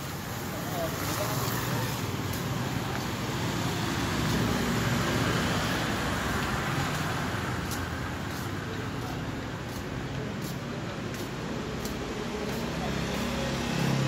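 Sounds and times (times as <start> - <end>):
passing vehicles engines and tyres: 0.0 - 14.0.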